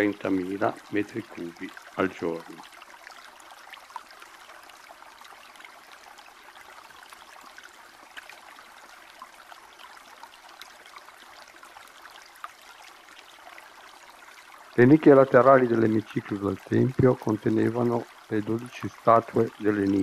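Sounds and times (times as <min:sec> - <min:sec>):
trickling running water: 0:00.0 - 0:20.0.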